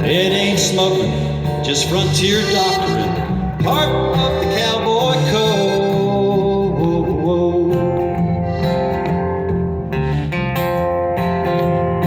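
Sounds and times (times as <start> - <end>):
folk band playing: 0.0 - 12.0
strummed acoustic guitar: 0.0 - 12.0.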